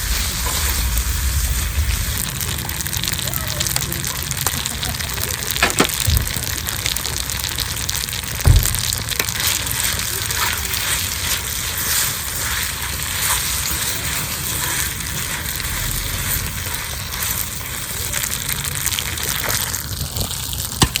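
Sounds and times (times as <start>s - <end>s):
campfire crackles: 0.0s - 21.0s
food sizzling in a skillet: 0.0s - 21.0s.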